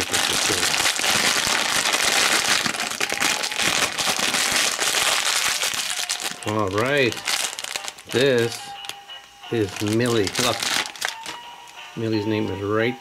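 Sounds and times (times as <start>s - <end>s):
plastic foil crumpling and tearing: 0.0s - 9.0s, 9.6s - 11.4s.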